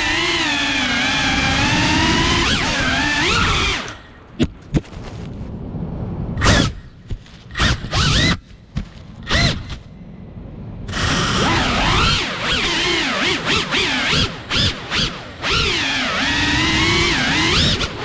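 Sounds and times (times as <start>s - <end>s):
drone motors whining: 0.0s - 4.2s, 6.4s - 10.0s, 10.8s - 18.0s.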